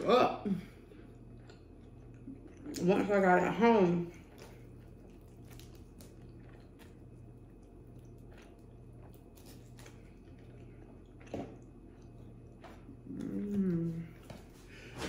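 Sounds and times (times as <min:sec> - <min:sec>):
low steady hum: 0:00.0 - 0:15.0
chewing pizza: 0:00.3 - 0:15.0.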